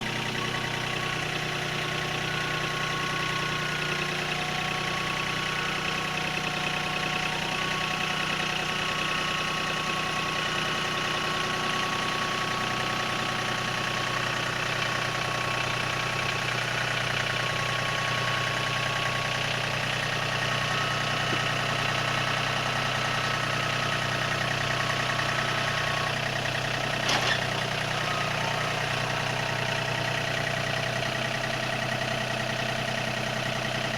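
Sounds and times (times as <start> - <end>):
engine hum: 0.0 - 33.9.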